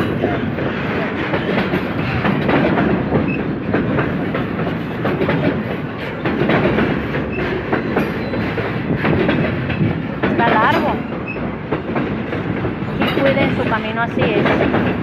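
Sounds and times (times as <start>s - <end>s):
freight train rumbling past: 0.0s - 15.0s
wheels clattering over rails: 0.0s - 15.0s.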